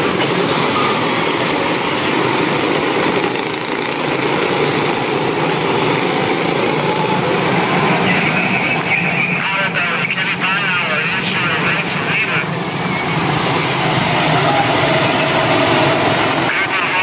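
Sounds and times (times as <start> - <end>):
race car engines running: 0.0 - 17.0.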